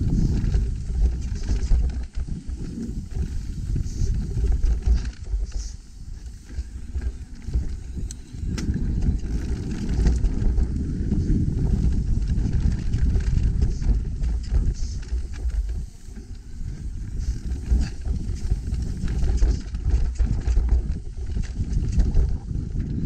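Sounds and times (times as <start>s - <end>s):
bike rumbling over rough trail: 0.0s - 23.0s
wind buffeting microphone: 0.0s - 23.0s.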